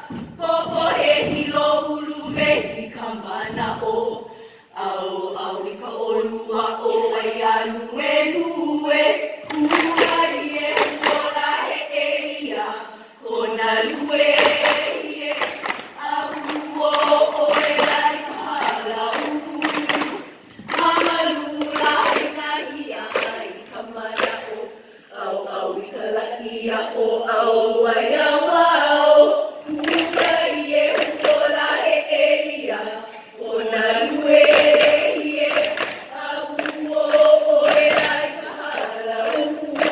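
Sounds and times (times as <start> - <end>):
women chanting in unison: 0.0 - 39.9.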